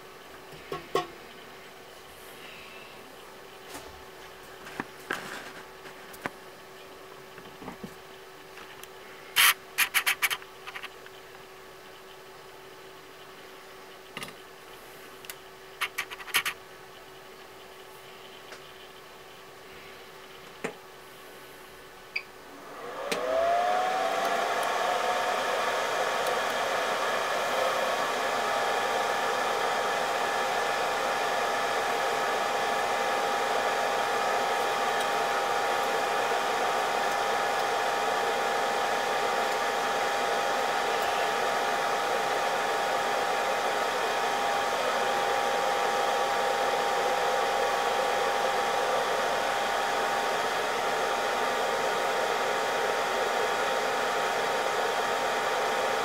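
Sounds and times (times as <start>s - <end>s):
hot-air blower motor whine: 0.0s - 9.5s, 17.2s - 56.0s.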